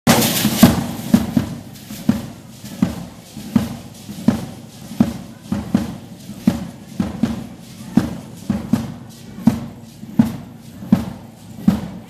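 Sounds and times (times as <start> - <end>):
drum beating: 0.1 - 12.0
gourd rattles shaking: 0.1 - 12.0.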